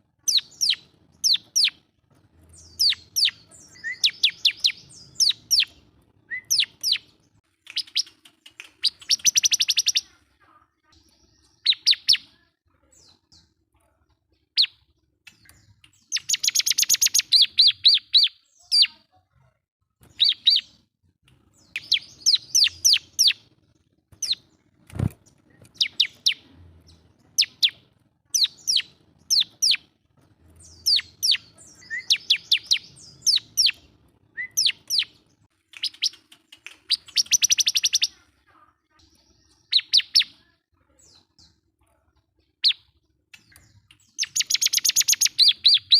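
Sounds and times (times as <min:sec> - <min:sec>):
bird singing chirps and trills: 0:00.2 - 0:01.8, 0:02.4 - 0:13.5, 0:14.4 - 0:19.1, 0:20.1 - 0:20.8, 0:21.5 - 0:23.4, 0:24.2 - 0:41.6, 0:42.4 - 0:45.9.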